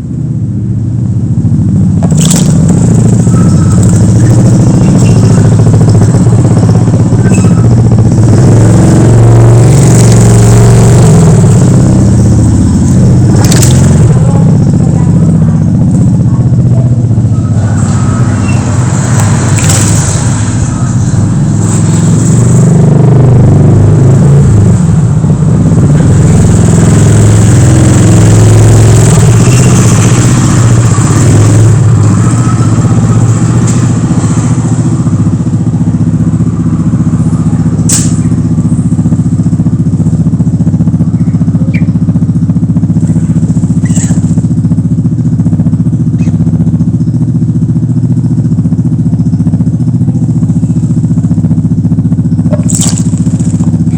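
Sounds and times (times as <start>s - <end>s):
motor engine running loudly: 0.0s - 53.9s.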